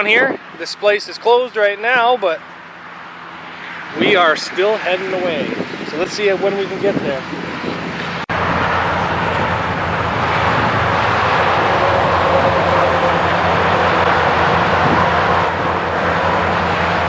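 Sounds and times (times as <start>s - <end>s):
road and wind noise: 0.0s - 17.0s
low engine hum: 1.7s - 17.0s.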